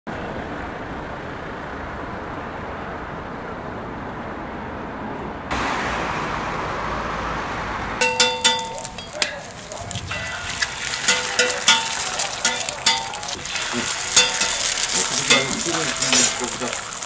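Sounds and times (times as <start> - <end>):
road traffic hiss: 0.1 - 17.0.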